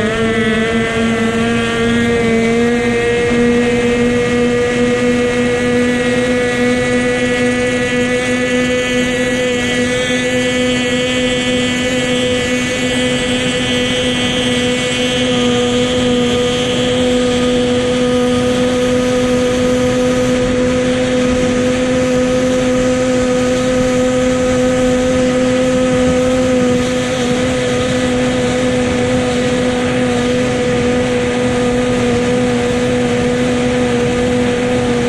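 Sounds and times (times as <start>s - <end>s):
powerboat engine at high revs: 0.0s - 35.0s.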